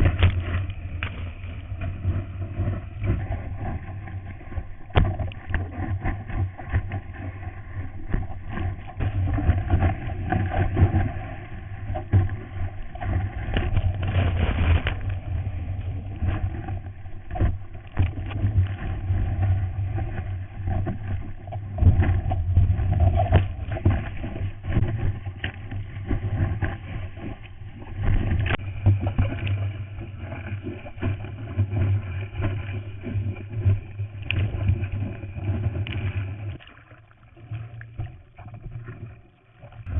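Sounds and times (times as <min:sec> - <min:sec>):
seawater rushing and splashing: 0:00.0 - 0:39.9.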